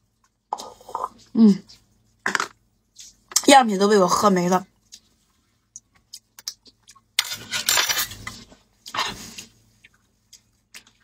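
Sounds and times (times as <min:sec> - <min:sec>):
noisy eating sounds: 0:00.0 - 0:11.0.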